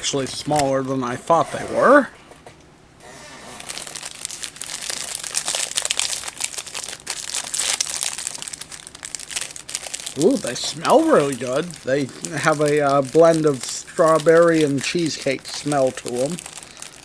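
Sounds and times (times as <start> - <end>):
plastic wrapper crinkling: 3.0 - 17.0.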